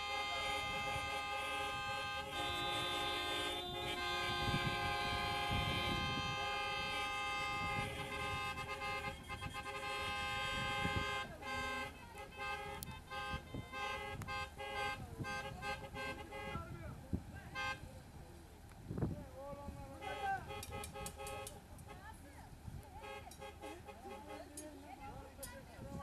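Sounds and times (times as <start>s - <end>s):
car horns honking: 0.0s - 18.1s, 19.9s - 22.2s, 22.9s - 24.9s.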